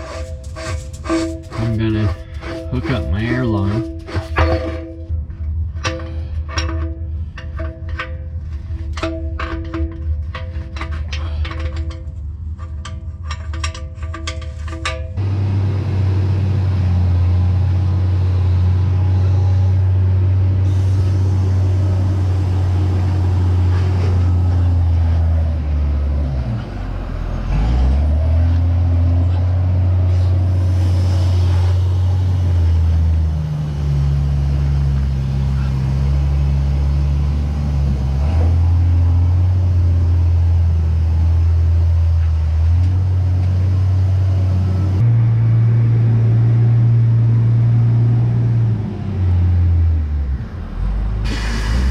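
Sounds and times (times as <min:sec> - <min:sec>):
engine humming: 0:00.0 - 0:51.9.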